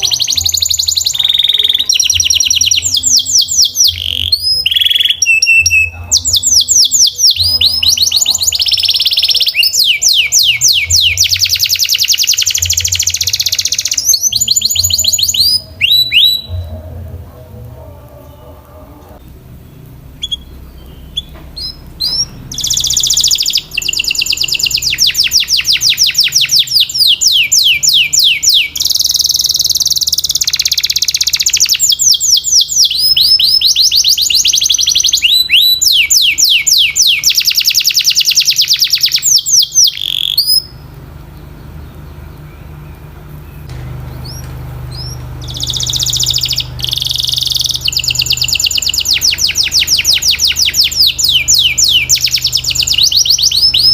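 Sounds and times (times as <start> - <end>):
canary singing: 0.0 - 53.9.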